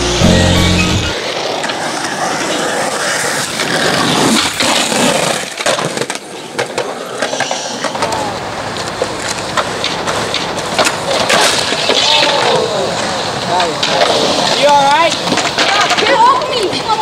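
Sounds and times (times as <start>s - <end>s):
skateboard wheels rolling on concrete: 0.0s - 17.0s
skateboard clacks and knocks: 1.6s - 17.0s.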